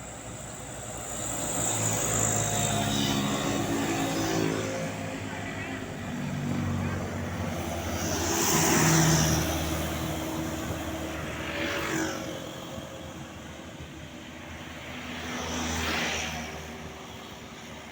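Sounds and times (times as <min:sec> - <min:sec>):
vehicles passing: 0:00.0 - 0:17.9.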